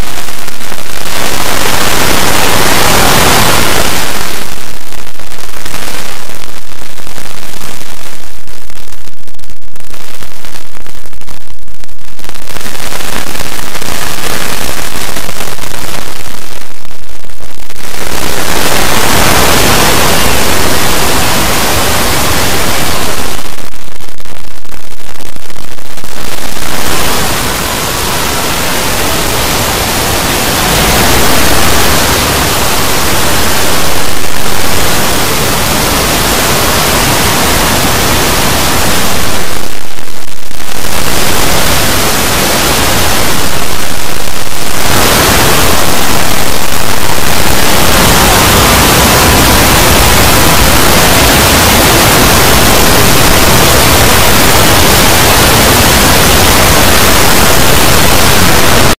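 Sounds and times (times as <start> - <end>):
distorted static-like noise: 0.0 - 59.0.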